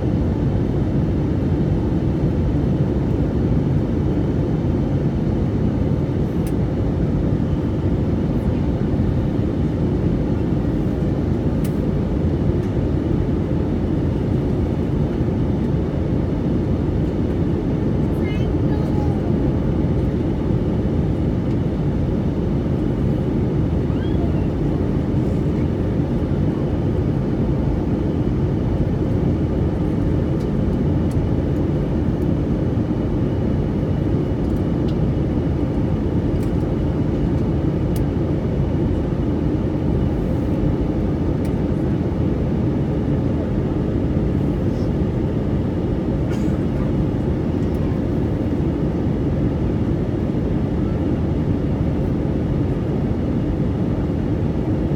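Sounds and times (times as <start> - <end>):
jet engines in flight: 0.0 - 54.9.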